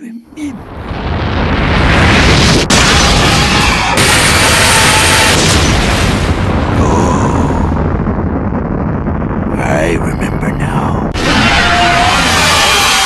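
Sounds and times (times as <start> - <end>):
loud rumbling boom: 0.6 - 13.0.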